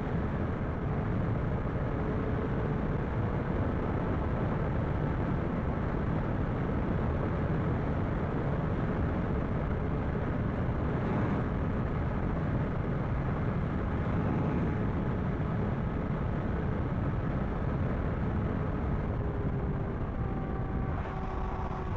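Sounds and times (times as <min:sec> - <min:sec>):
wind and motorcycle riding noise: 0:00.0 - 0:21.9.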